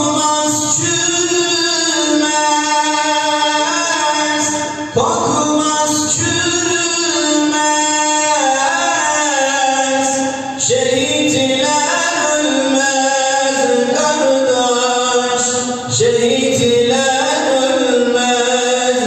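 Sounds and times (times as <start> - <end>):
man singing a hymn unaccompanied: 0.0 - 19.0.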